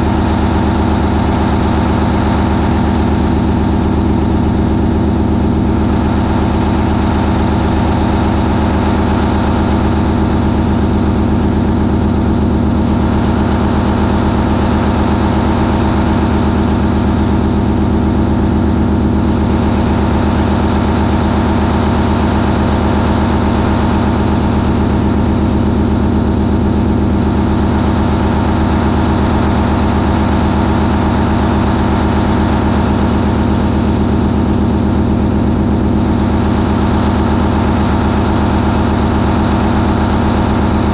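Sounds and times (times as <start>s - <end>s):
marine diesel engine droning: 0.0s - 40.9s.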